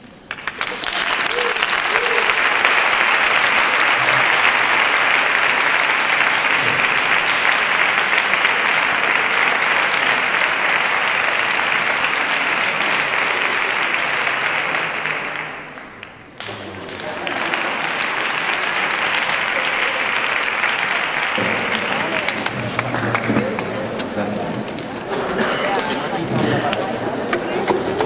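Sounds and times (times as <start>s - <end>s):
large crowd applauding: 0.0s - 28.0s.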